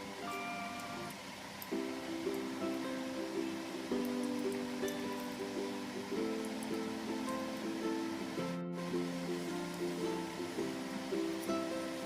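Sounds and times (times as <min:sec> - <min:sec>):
plucked ukulele melody: 0:00.0 - 0:12.0.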